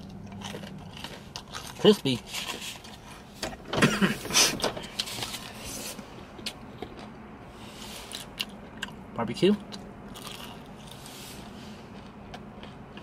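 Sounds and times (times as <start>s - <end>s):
chewing crispy food: 0.0s - 3.3s, 4.9s - 13.0s.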